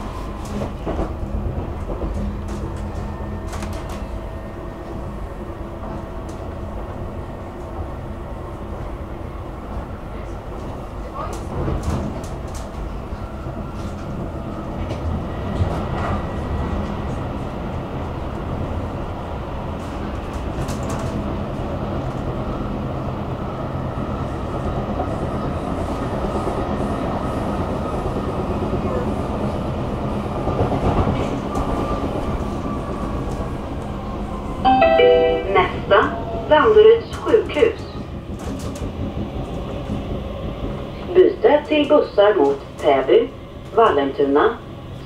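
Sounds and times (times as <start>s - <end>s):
metro train rumbling: 0.0s - 45.0s.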